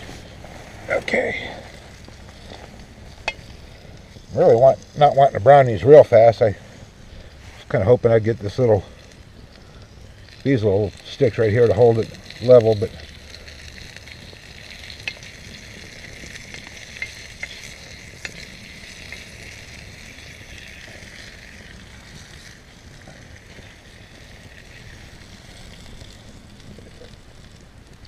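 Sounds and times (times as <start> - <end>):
sausage sizzling in skillet: 0.0 - 28.0.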